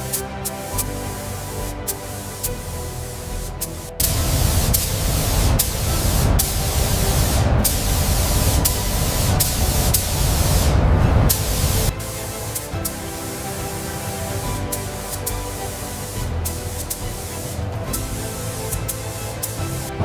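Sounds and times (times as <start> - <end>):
loud spraying hiss: 0.0 - 20.0.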